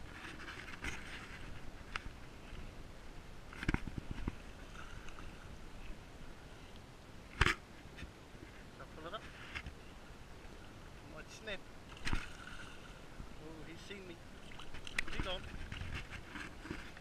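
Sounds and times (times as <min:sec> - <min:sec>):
water lapping at shoreline: 0:00.0 - 0:17.0.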